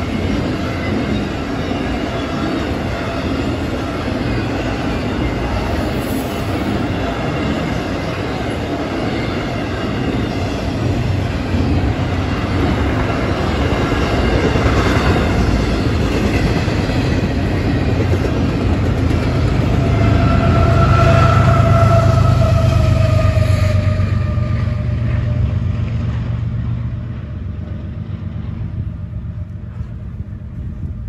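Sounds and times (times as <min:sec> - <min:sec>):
diesel locomotive: 0:00.0 - 0:31.0
train wheels clattering on rail: 0:00.0 - 0:31.0.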